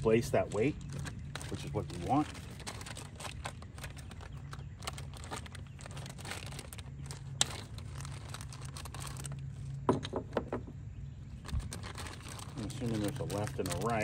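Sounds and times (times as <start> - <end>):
plastic packaging crinkling: 0.0 - 9.8, 11.3 - 14.0.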